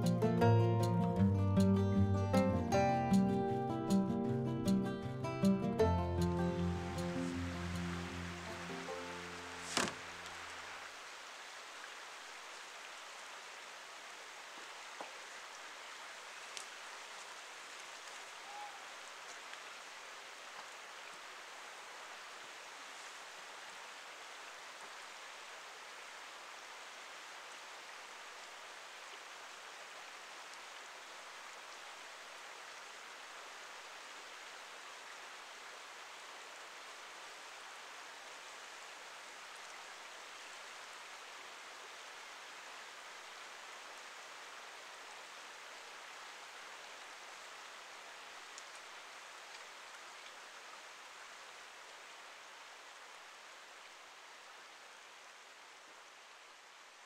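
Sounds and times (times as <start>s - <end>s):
rushing water: 4.4s - 57.0s.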